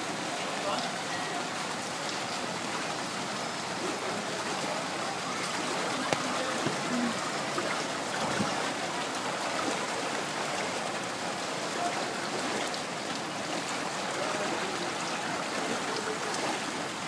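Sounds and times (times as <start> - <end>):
rain and running water: 0.0 - 17.0.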